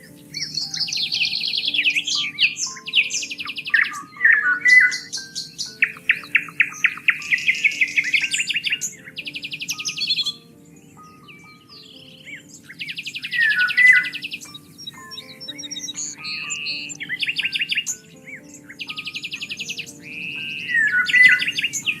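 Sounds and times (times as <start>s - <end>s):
soft background music: 0.0s - 22.0s
songbirds singing: 0.0s - 22.0s.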